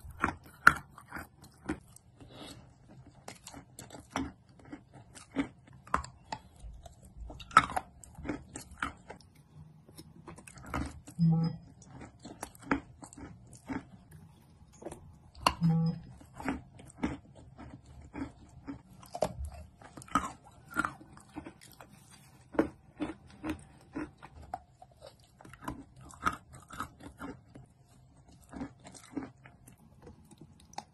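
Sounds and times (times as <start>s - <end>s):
crunchy chewing clicks: 0.0s - 30.9s.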